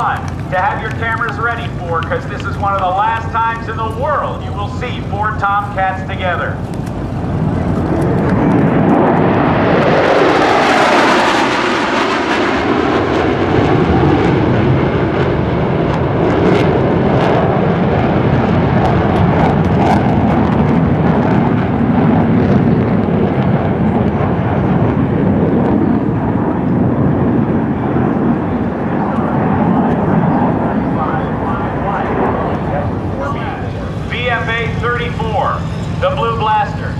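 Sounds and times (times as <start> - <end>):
jet aircraft roaring past: 0.0 - 36.9.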